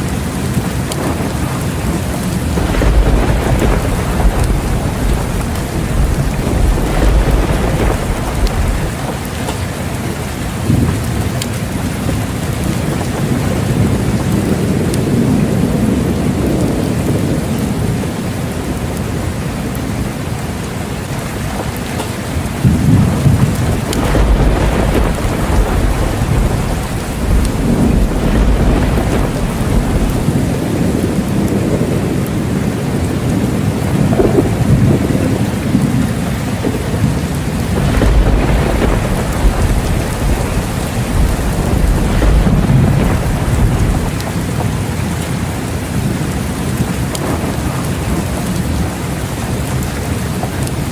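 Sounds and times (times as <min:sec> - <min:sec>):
heavy rain falling: 0:00.0 - 0:50.9
thunder rumbling: 0:00.0 - 0:50.9.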